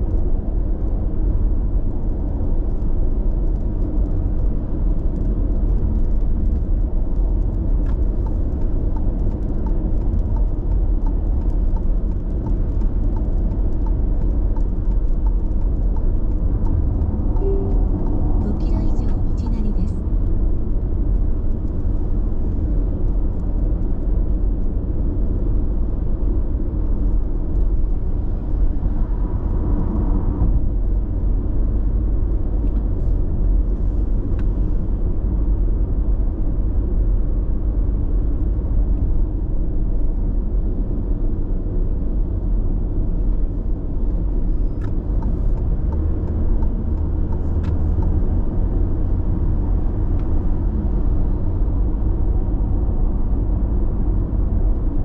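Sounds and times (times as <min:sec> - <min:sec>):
car road noise rumble: 0:00.0 - 0:55.0.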